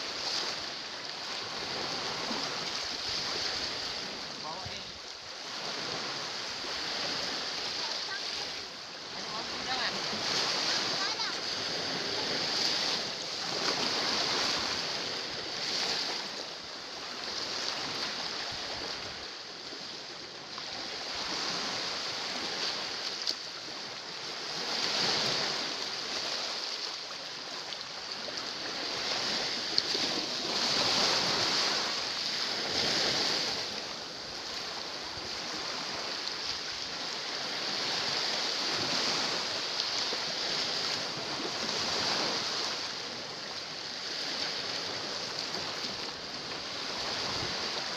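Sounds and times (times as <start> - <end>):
waves washing against rocks: 0.0 - 19.2, 20.5 - 47.9.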